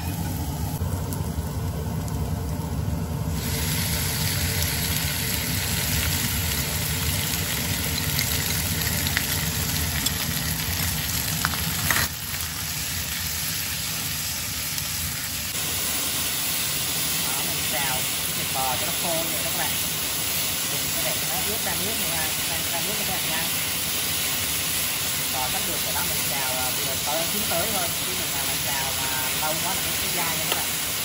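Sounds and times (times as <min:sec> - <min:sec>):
meat sizzling in hot oil: 0:00.0 - 0:31.0.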